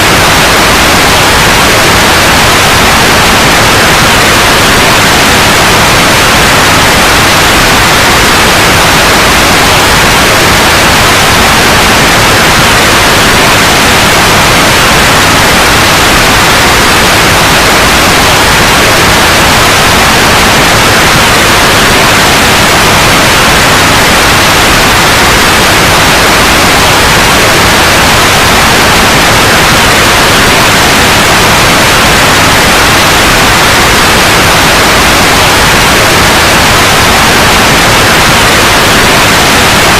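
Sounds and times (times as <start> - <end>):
loud white noise hiss: 0.0 - 39.9.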